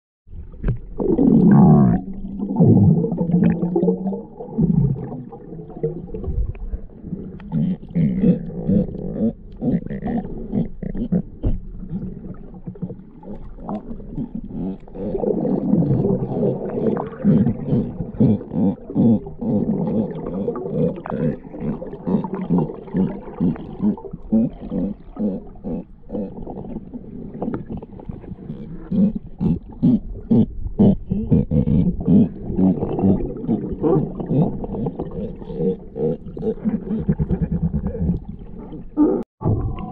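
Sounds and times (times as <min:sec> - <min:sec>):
sea lions barking underwater: 0:07.3 - 0:39.9.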